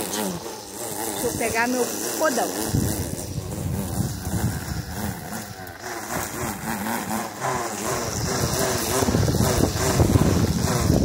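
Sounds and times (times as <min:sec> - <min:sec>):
electric string trimmer running: 0:00.0 - 0:11.0.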